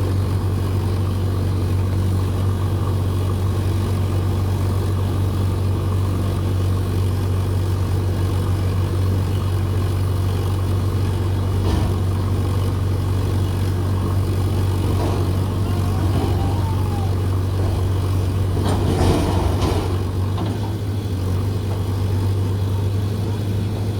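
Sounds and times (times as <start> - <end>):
heavy diesel engine droning: 0.0 - 23.9.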